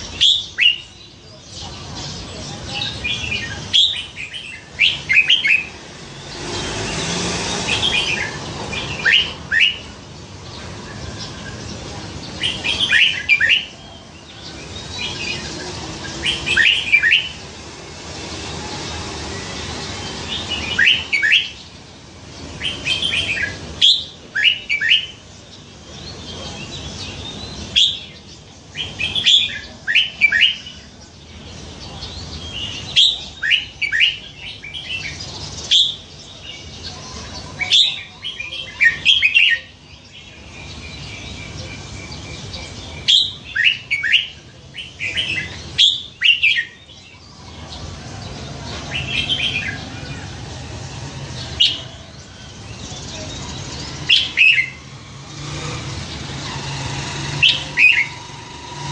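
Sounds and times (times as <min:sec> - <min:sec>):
bird whistled song: 0:00.0 - 0:17.4, 0:19.4 - 0:21.8, 0:22.6 - 0:25.6, 0:26.3 - 0:31.0, 0:31.9 - 0:47.2, 0:51.4 - 0:54.9, 0:56.4 - 0:58.9.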